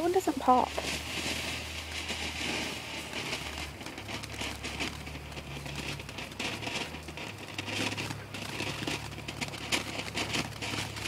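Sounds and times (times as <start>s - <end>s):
firework fountain hissing and crackling: 0.0s - 11.0s.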